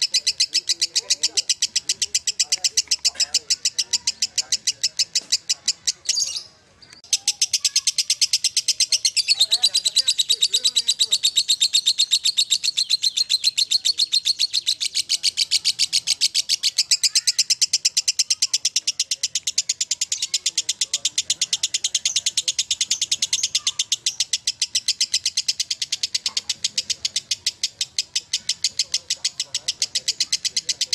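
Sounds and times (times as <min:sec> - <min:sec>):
bird chattering trill: 0:00.0 - 0:30.9.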